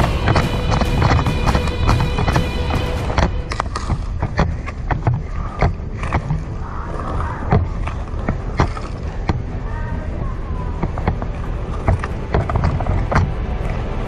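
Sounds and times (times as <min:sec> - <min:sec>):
low microphone rumble: 0:00.0 - 0:14.0
walking footsteps: 0:00.0 - 0:14.0.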